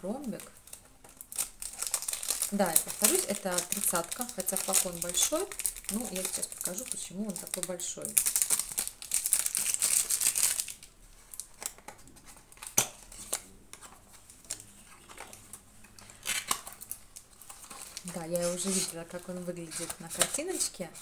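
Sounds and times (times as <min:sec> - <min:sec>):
cellophane tearing and crinkling: 0:00.1 - 0:13.4, 0:14.1 - 0:21.0.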